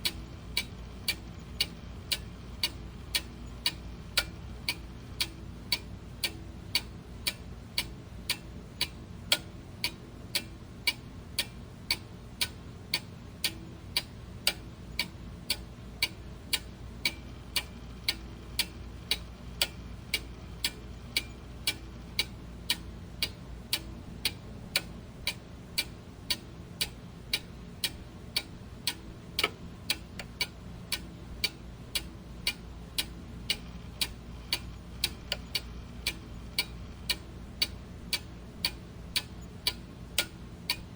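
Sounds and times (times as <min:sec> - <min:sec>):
clock ticking: 0:00.0 - 0:40.9
low steady background noise: 0:00.0 - 0:40.9.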